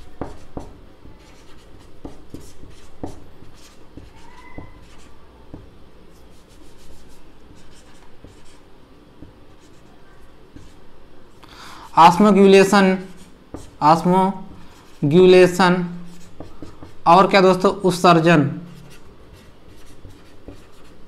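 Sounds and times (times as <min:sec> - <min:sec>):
marker pen writing on whiteboard: 0:00.0 - 0:10.9, 0:11.9 - 0:18.0, 0:18.6 - 0:21.0.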